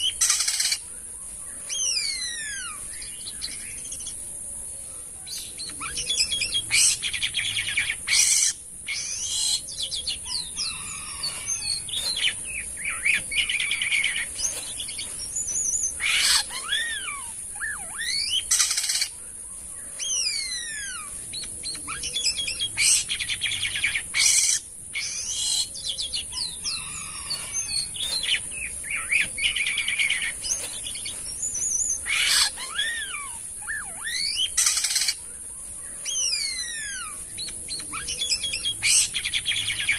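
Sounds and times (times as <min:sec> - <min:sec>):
starling whistling and chattering: 0:00.0 - 0:04.2, 0:05.6 - 0:35.2, 0:36.0 - 0:39.9
steady high hiss: 0:00.0 - 0:39.9.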